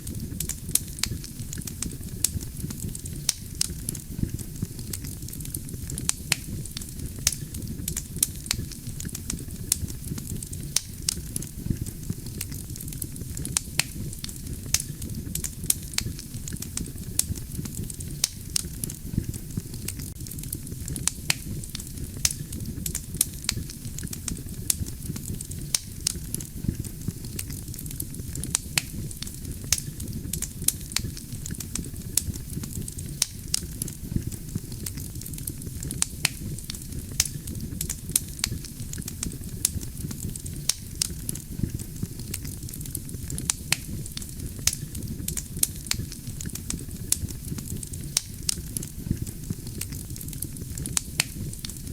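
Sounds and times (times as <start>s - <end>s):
burning logs crackling and popping: 0.0s - 51.9s
campfire flames rumbling: 0.0s - 51.9s.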